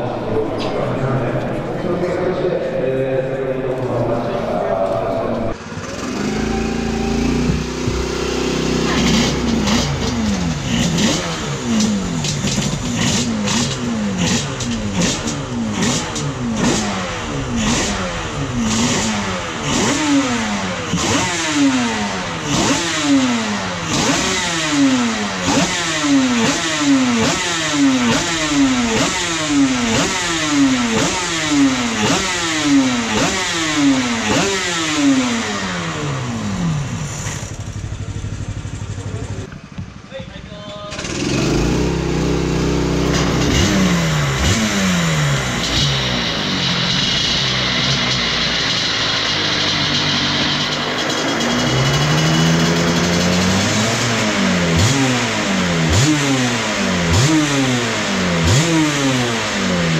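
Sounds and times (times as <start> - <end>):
motorcycle engine revving: 4.2 - 59.9.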